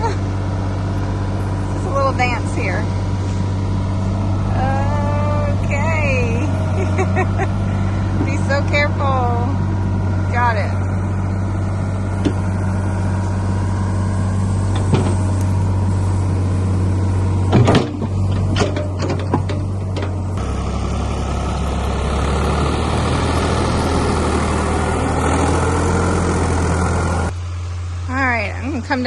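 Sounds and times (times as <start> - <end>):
backhoe engine running: 0.0 - 29.0.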